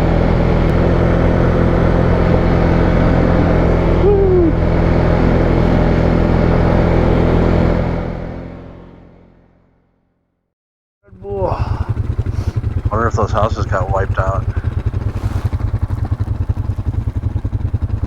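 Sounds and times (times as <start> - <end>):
atv engine running: 0.0 - 10.0, 11.1 - 18.0.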